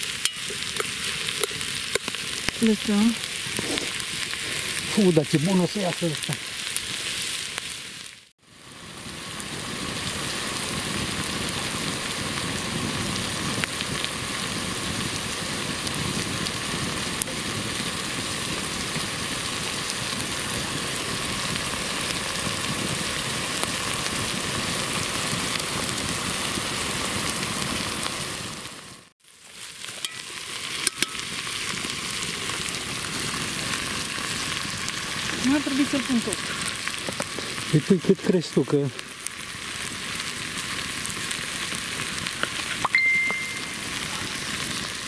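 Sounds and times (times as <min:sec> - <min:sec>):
onions sizzling in a pot: 0:00.0 - 0:45.0.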